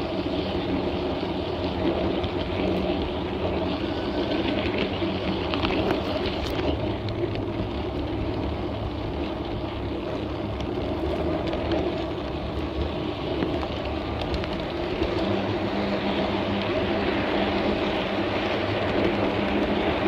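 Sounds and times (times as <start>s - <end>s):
model train rumbling on rails: 0.0s - 20.0s.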